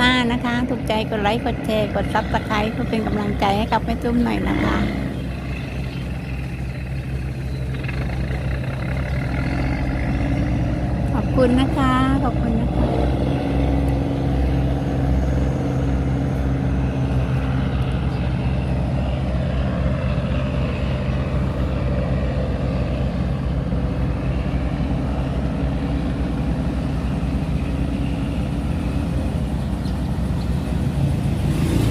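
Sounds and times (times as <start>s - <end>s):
tugboat engine humming: 0.0s - 31.9s.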